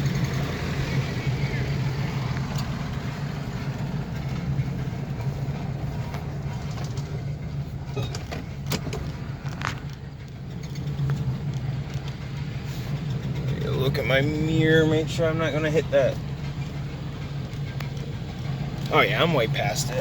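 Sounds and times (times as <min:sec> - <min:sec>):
van engine idling: 0:00.0 - 0:20.0.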